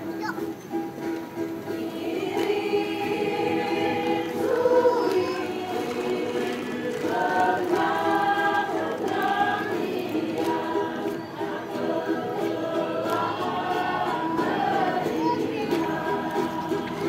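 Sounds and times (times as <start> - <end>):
women's choir singing: 1.4 - 17.0.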